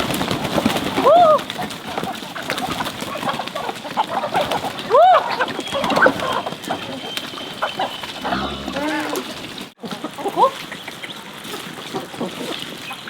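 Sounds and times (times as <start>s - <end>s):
poultry calling: 0.7s - 12.6s.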